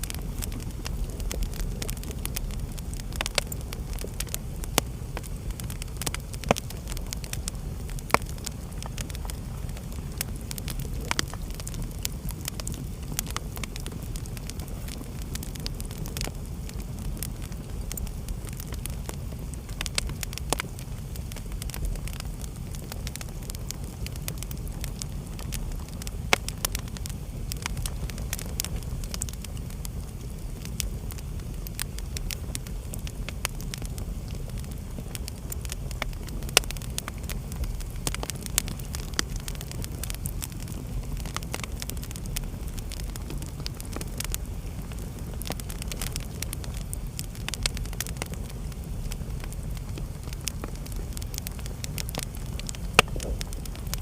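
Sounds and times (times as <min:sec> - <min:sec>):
wood fire burning: 0:00.0 - 0:54.0.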